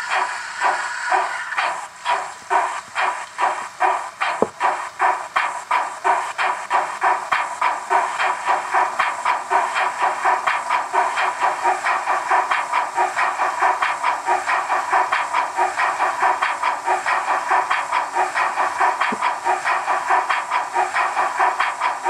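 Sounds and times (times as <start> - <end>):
model steam locomotive chuffing: 0.0 - 22.0.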